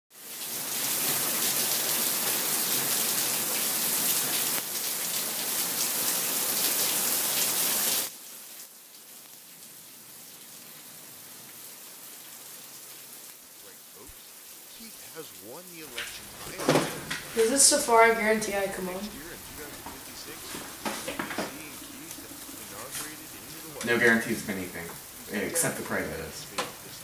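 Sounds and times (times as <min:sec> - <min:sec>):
heavy rain: 0:00.1 - 0:27.0.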